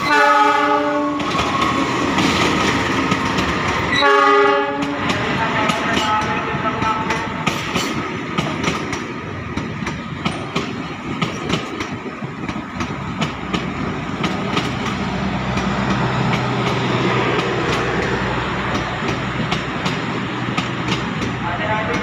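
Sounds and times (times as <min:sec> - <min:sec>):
train wheels clacking on track: 0:00.0 - 0:22.0.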